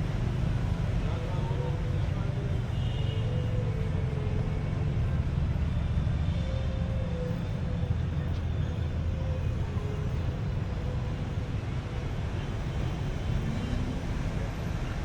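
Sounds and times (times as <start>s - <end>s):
passing vehicles rumble: 0.0s - 15.0s
traffic hiss: 0.0s - 15.0s.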